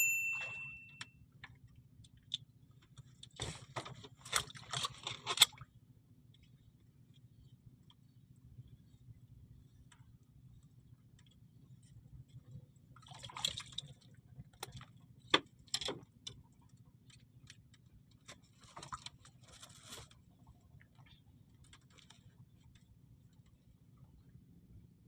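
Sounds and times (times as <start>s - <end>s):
steady low hum: 0.0s - 18.6s, 20.0s - 25.0s.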